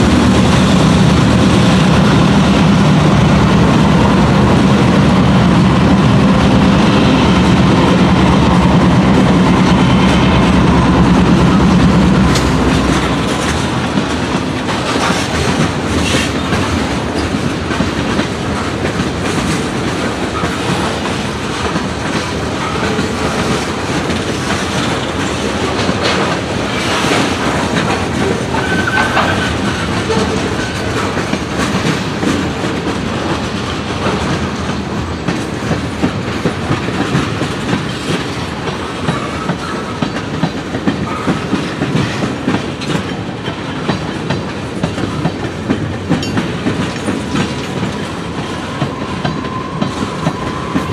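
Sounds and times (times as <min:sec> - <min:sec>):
diesel locomotive engine humming: 0:00.0 - 0:50.9
train wheels clickety-clack: 0:00.0 - 0:50.9.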